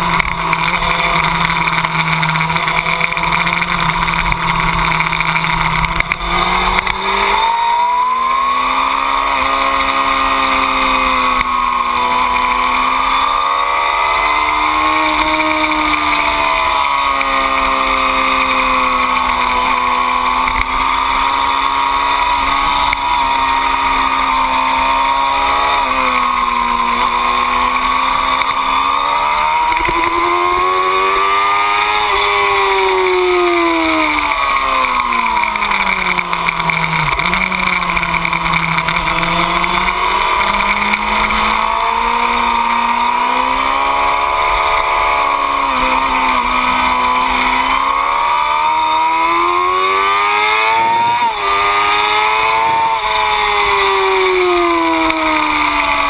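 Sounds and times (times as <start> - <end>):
motorcycle engine running hard: 0.0 - 56.0
wind and road noise: 0.0 - 56.0.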